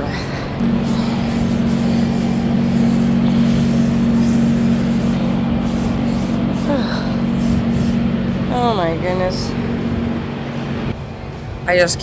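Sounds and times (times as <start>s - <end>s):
motor drone humming: 0.6s - 11.0s.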